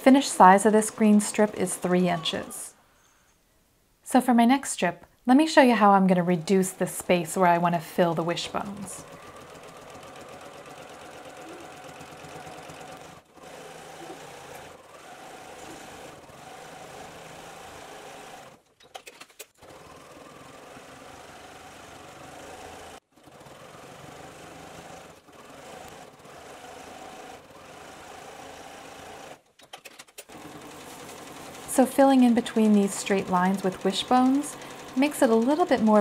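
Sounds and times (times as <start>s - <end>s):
sewing machine running: 0.0s - 2.6s, 6.2s - 29.5s, 30.1s - 36.0s.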